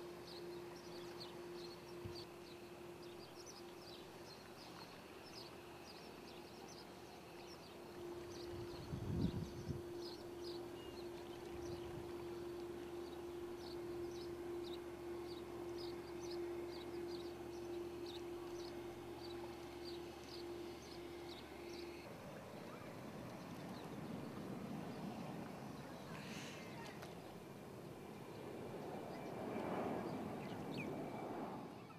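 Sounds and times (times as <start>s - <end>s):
ship machinery hum: 0.0s - 31.9s
small birds chirping: 0.2s - 27.4s.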